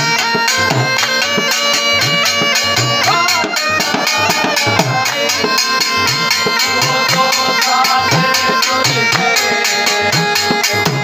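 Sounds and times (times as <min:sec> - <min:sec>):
drum beating dance rhythm: 0:00.0 - 0:11.0
reed pipe melody with drone: 0:00.0 - 0:11.0.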